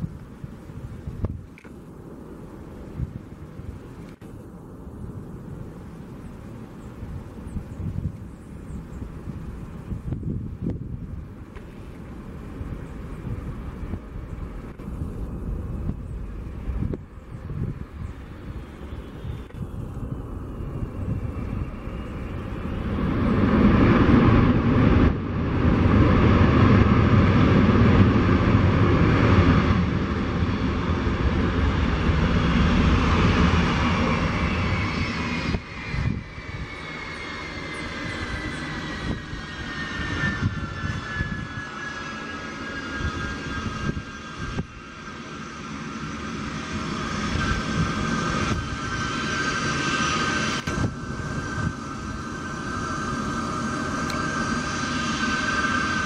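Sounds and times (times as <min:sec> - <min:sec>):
jet engines rumbling and whining: 0:00.0 - 0:56.0.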